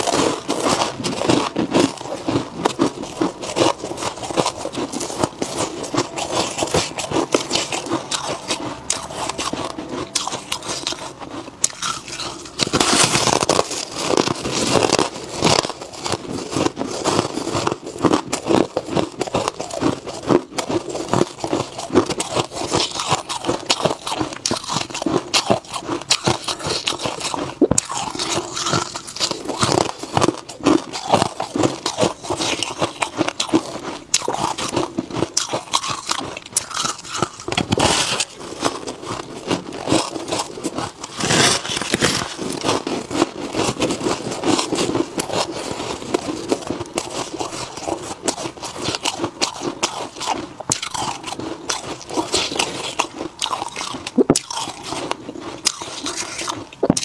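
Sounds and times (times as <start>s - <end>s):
crunching frost while chewing: 0.0s - 57.0s.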